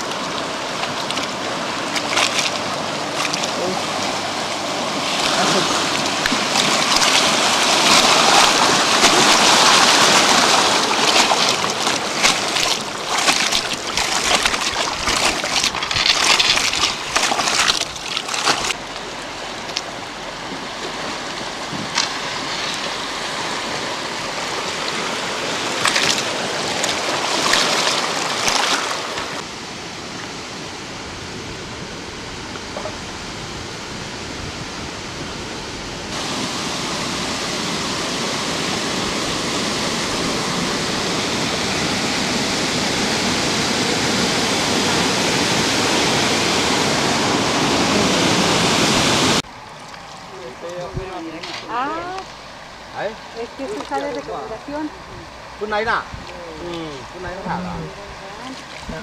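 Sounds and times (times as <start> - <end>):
water rushing and splashing: 0.0 - 59.0.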